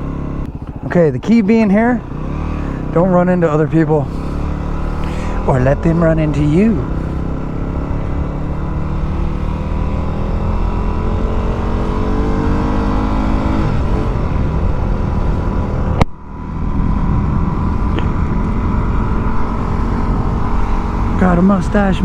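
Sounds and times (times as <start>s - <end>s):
low wind rumble: 0.0s - 22.0s
motorcycle engine revving: 0.0s - 22.0s.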